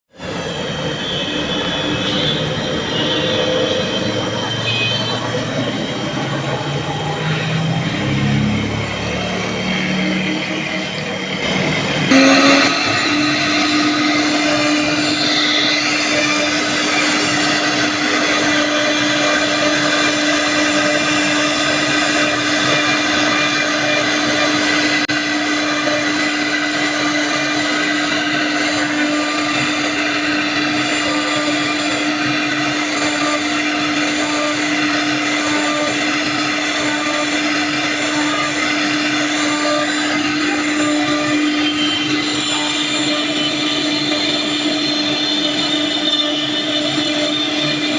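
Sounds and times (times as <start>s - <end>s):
router spindle whining: 0.1s - 47.9s
router cutting wood: 0.2s - 47.9s.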